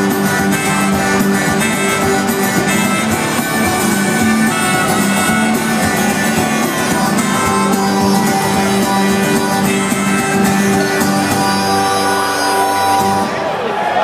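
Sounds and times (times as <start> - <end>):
acoustic guitar strumming: 0.0 - 13.6
long held notes: 0.0 - 13.6.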